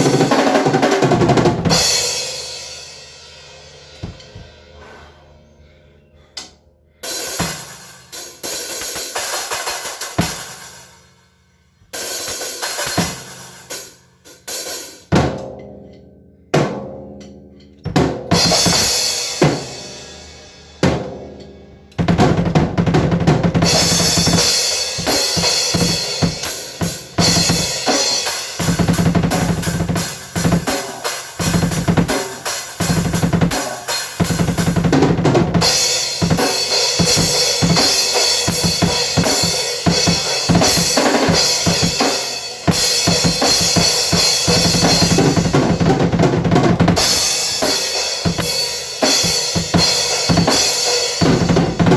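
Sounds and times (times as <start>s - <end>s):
drum kit playing: 0.0s - 5.1s, 7.0s - 11.1s, 11.8s - 51.9s.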